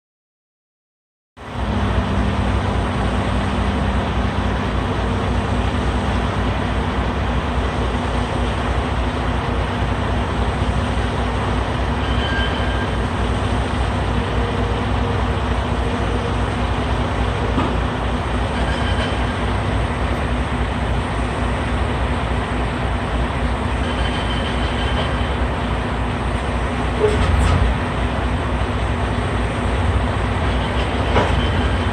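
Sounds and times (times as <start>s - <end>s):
diesel engine rumbling: 1.4s - 31.9s.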